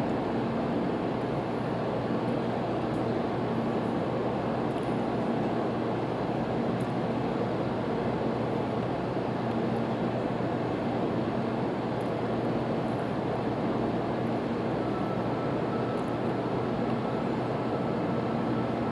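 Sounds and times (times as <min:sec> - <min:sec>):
train wheel and air noise: 0:00.0 - 0:18.9.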